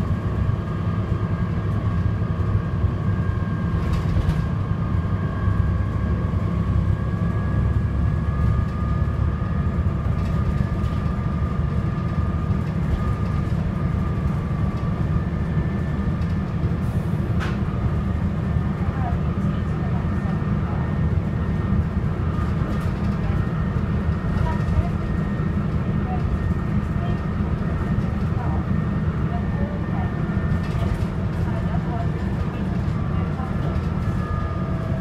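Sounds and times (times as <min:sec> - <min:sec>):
bus diesel engine rumble: 0:00.0 - 0:35.0
high engine whine: 0:00.0 - 0:35.0.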